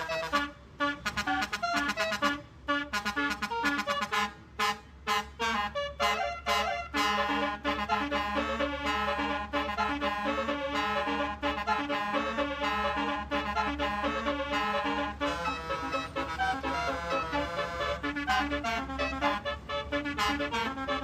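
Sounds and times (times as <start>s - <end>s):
musical bus horn tune: 0.0s - 21.0s.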